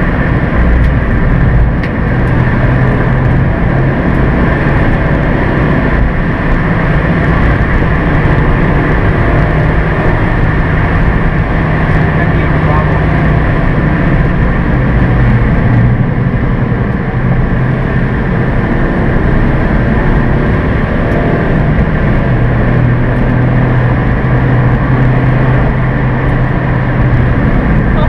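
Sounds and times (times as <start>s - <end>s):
car engine droning: 0.0s - 28.0s
road and wind noise: 0.0s - 28.0s.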